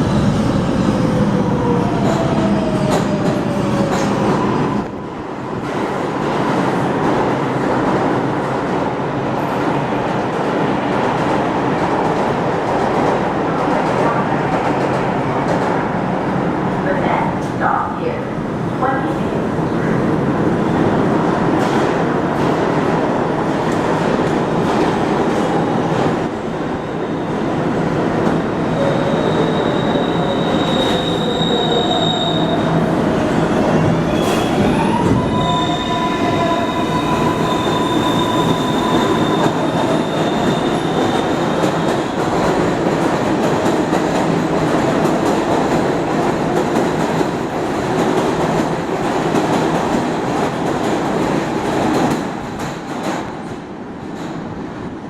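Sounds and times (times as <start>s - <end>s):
subway train wheels rumbling on rail: 0.0s - 55.0s.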